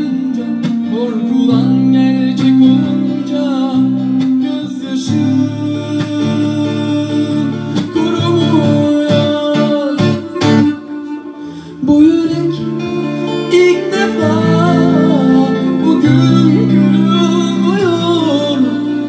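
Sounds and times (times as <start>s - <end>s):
live pop band with keyboard and guitar: 0.0s - 19.0s
man singing: 0.0s - 19.0s.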